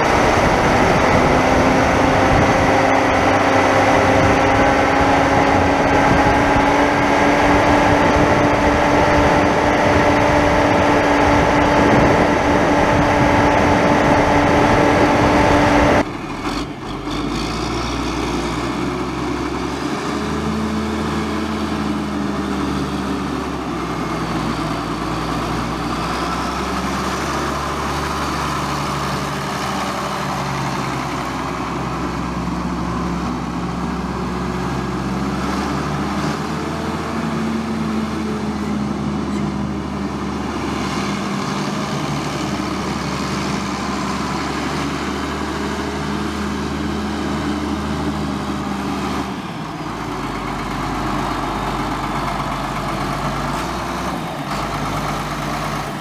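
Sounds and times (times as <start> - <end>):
distant tractor engine running: 0.0 - 56.0
tractor diesel engine running: 0.0 - 56.0.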